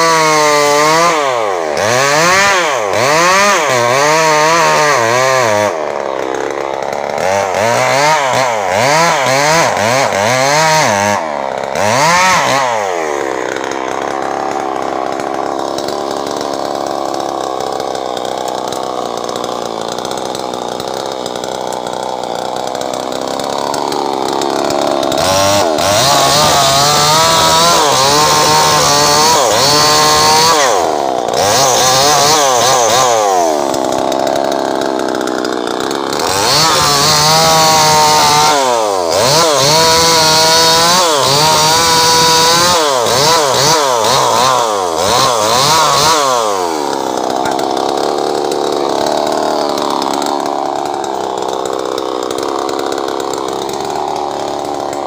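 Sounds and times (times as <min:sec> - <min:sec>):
chainsaw cutting log: 0:00.0 - 0:55.0
chainsaw engine revving: 0:00.0 - 0:55.0.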